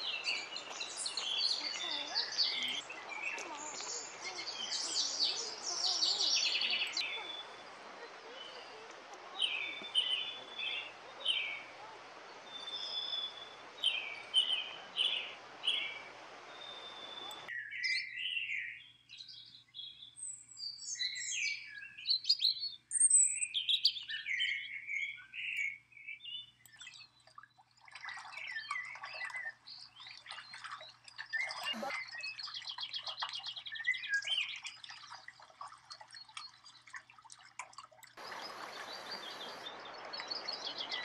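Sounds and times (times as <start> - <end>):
songbirds chirping and singing: 0.0 - 37.2, 38.2 - 41.0.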